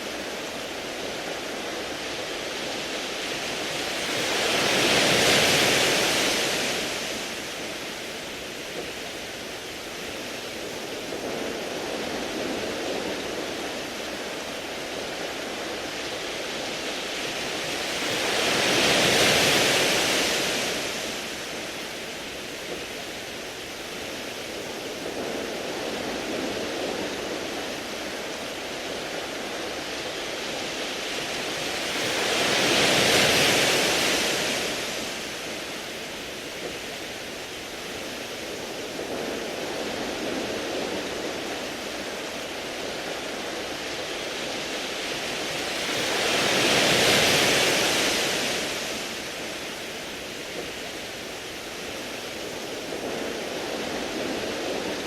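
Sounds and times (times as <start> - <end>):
waves washing over pebbles: 0.0 - 55.0.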